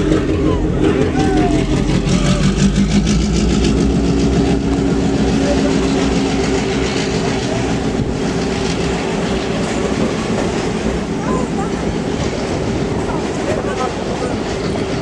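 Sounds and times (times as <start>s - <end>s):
diesel locomotive engine drone: 0.0s - 15.0s
train cars rumbling on rails: 0.0s - 15.0s.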